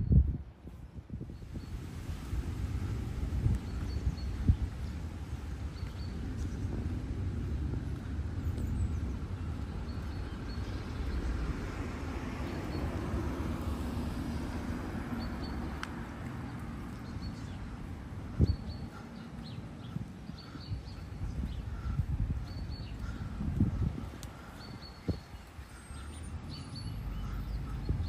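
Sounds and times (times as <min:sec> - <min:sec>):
low steady rumble: 0:01.3 - 0:24.1
distant vehicle passing: 0:01.4 - 0:28.0.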